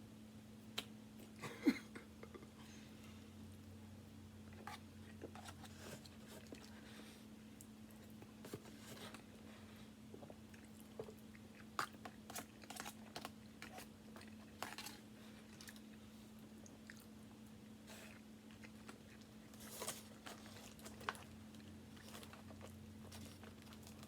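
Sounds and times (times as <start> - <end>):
faint steady hum: 0.0 - 24.0
person chewing food: 4.5 - 24.0.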